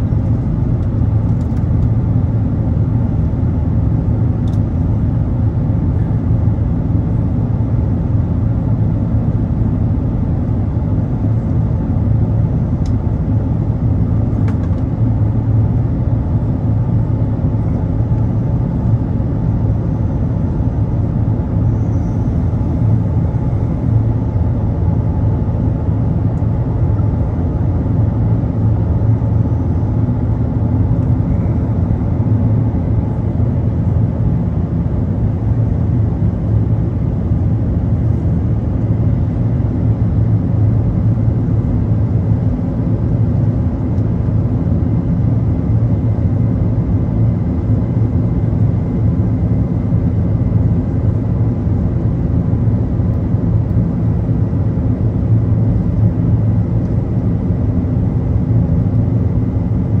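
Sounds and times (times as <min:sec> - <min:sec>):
aircraft engines and airflow drone: 0:00.0 - 1:00.0
faint steady whine: 0:00.0 - 1:00.0.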